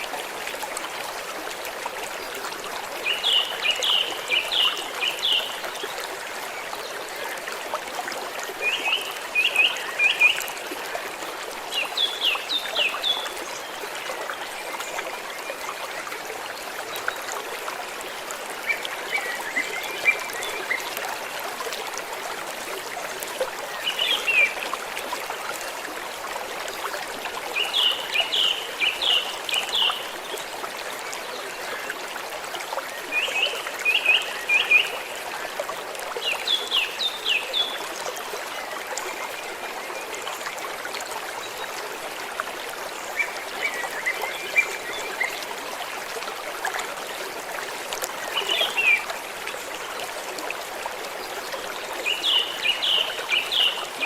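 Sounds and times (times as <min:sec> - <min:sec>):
stream water trickling: 0:00.0 - 0:54.0.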